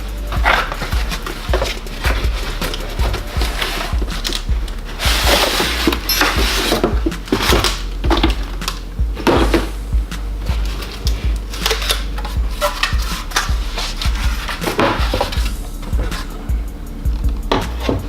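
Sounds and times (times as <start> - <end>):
rasping slide: 0.0 - 18.0
packaging rustling and scraping: 0.2 - 9.8, 10.4 - 16.5.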